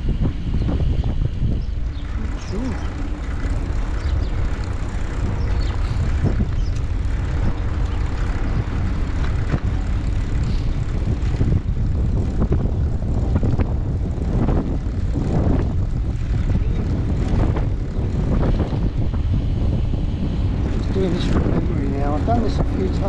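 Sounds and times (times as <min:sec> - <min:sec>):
wind on microphone: 0:00.0 - 0:23.0
tyres rolling on tarmac: 0:01.8 - 0:23.0.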